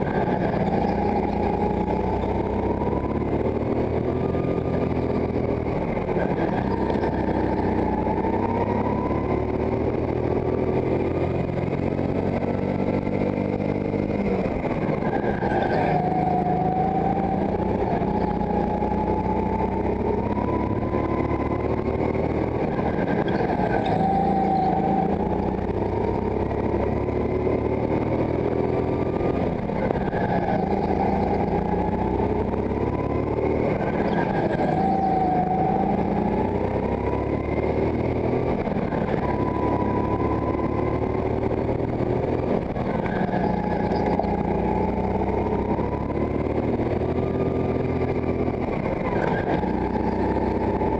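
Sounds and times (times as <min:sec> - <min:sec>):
go-kart engine revving: 0:00.0 - 0:50.9.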